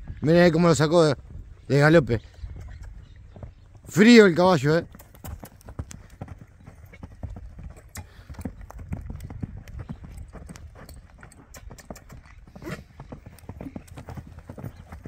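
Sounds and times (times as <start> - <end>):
horse hoofbeats on dirt: 2.2 - 15.0.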